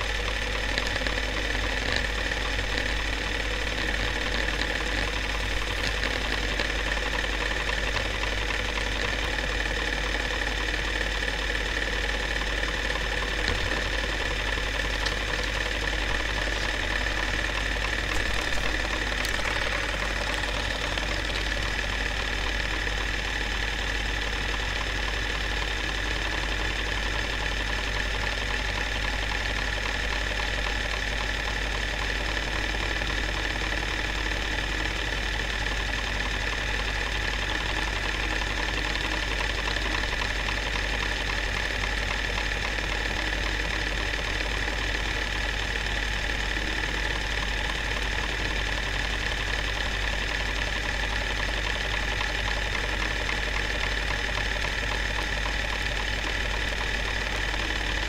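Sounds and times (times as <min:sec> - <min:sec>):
film projector whirring and clattering: 0:00.0 - 0:58.0.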